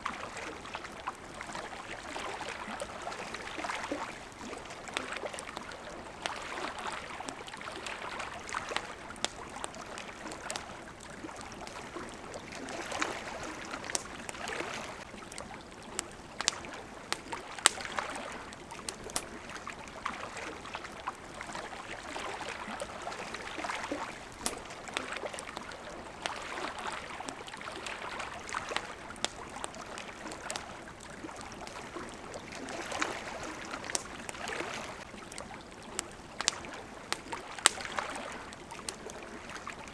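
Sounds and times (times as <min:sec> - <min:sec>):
campfire crackling: 0:00.0 - 0:39.9
water lapping at shore: 0:00.0 - 0:39.9.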